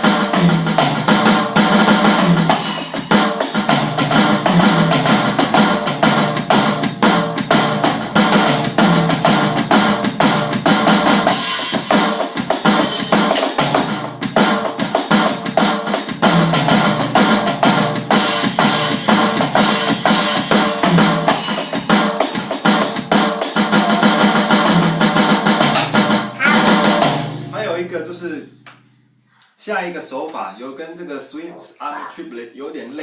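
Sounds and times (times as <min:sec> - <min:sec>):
bass drum: 0:00.0 - 0:27.9
drum kit triplets on snare and toms: 0:00.0 - 0:27.9.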